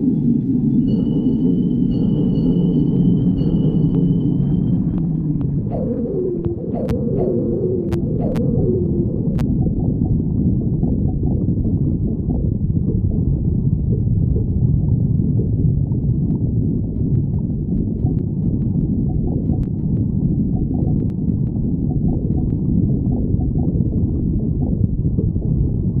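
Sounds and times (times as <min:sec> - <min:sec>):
gurgling pops and clicks: 0:03.4 - 0:26.0
stomach growling: 0:03.8 - 0:26.0.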